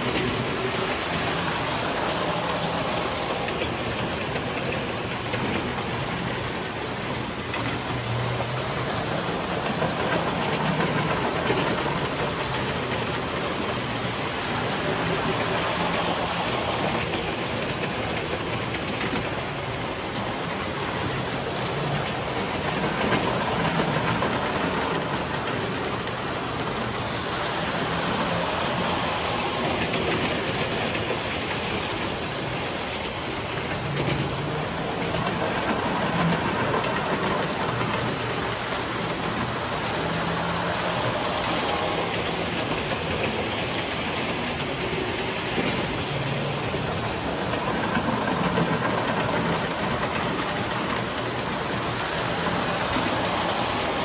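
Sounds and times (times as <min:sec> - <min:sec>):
toy trains whirring on metal track: 0:00.0 - 0:54.0.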